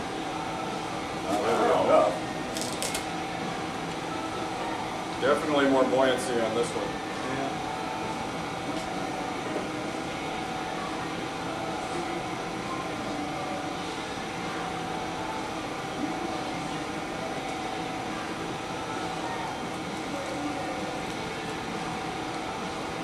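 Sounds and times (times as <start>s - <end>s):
ventilation hum: 0.0s - 23.0s.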